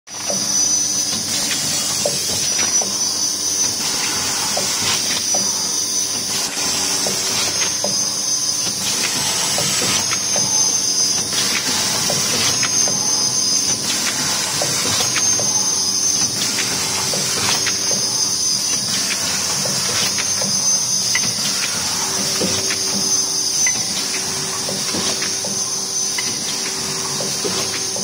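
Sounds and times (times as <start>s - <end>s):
pneumatic clicks: 0.1s - 28.0s.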